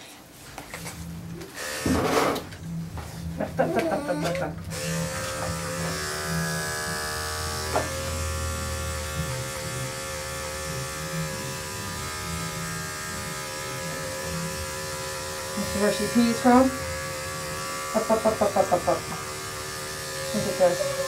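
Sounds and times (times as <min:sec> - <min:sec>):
electric clippers buzzing: 0:01.3 - 0:02.8, 0:03.4 - 0:21.0.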